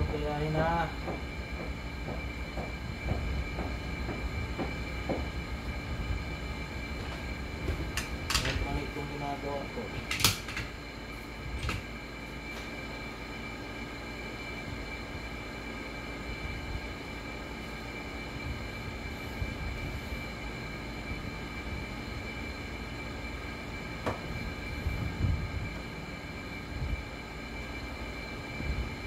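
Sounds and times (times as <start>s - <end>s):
machine hum with high whining: 0.0s - 29.0s.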